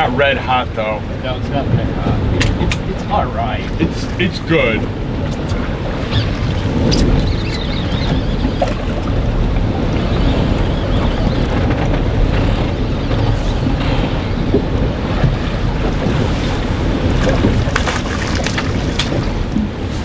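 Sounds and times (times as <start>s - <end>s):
sea water: 0.0s - 20.0s
wind rumbling on microphone: 0.0s - 20.0s.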